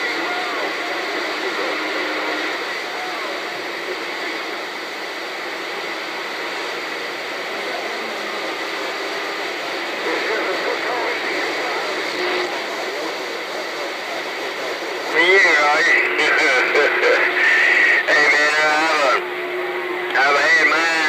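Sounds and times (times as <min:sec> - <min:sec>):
faint indistinct voices: 0:00.0 - 0:05.8, 0:06.4 - 0:21.0
steady rushing hiss: 0:00.0 - 0:21.0.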